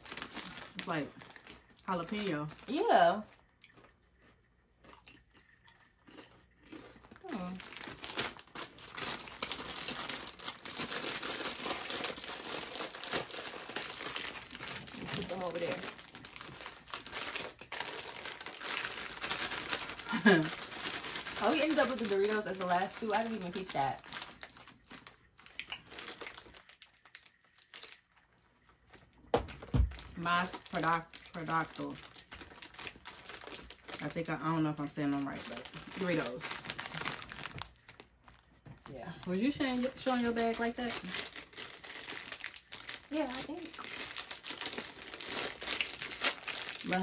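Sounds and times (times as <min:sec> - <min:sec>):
plastic bags crinkling: 0:00.0 - 0:04.3, 0:06.1 - 0:47.0.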